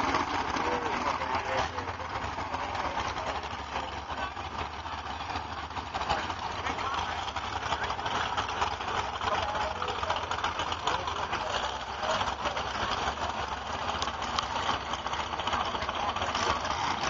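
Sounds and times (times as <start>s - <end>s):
crowd chatter: 0.0s - 17.0s
truck engine idling: 0.0s - 17.0s.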